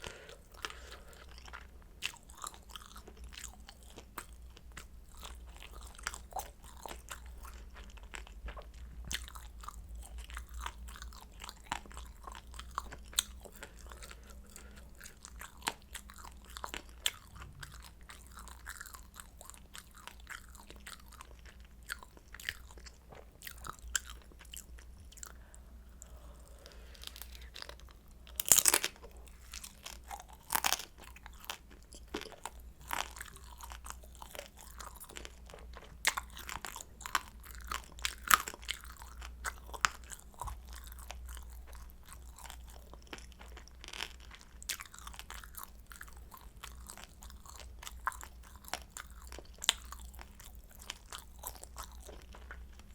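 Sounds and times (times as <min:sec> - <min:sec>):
chewing crunchy fried dumplings: 0:00.0 - 0:52.9.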